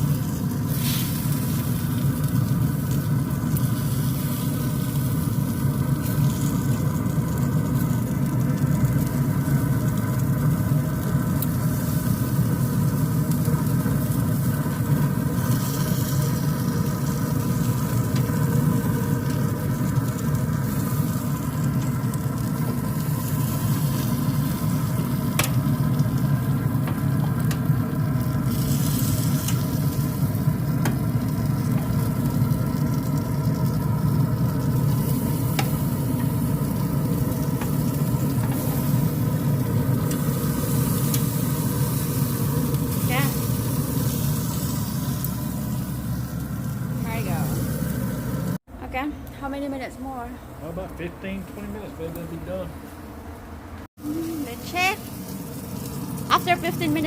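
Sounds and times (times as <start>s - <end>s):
chicken wings sizzling on a grill: 0.0s - 48.6s, 50.1s - 52.7s, 54.0s - 57.0s
low rumble: 0.1s - 49.3s.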